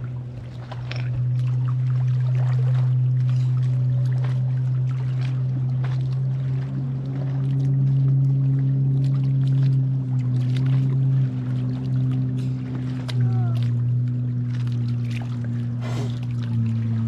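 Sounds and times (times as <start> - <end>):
boat engine droning: 0.0 - 17.0
small water splashes: 0.0 - 17.0.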